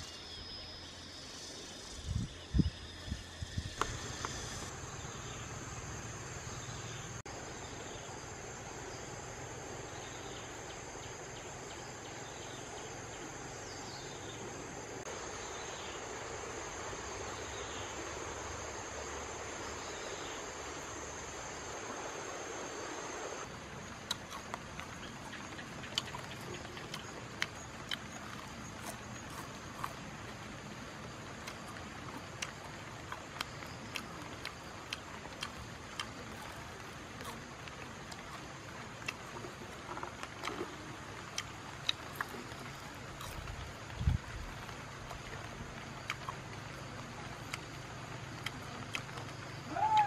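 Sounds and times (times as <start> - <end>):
background hiss: 0.0 - 50.0
insect chorus drone: 0.0 - 50.0.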